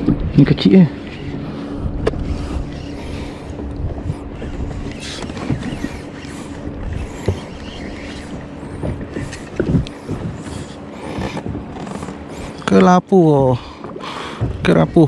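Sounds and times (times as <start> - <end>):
wind on microphone: 0.0 - 12.7
water around a kayak: 0.0 - 15.0.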